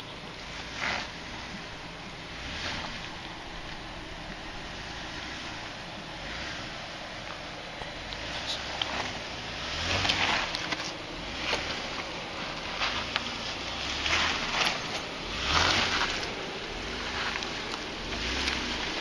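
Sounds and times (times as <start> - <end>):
engine low rumble: 0.0 - 19.0.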